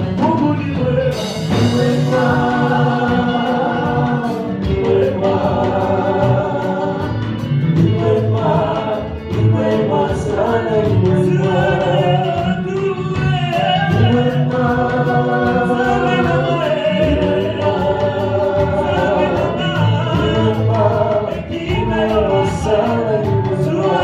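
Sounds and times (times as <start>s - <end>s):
choir singing gospel: 0.0s - 24.0s
instrumental backing: 0.0s - 24.0s
steady percussive beat: 0.0s - 24.0s.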